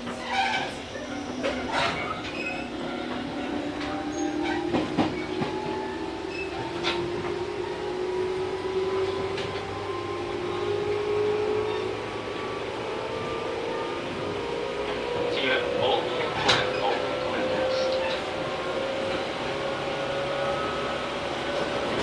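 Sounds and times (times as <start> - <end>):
electric train motors humming: 0.0 - 22.0.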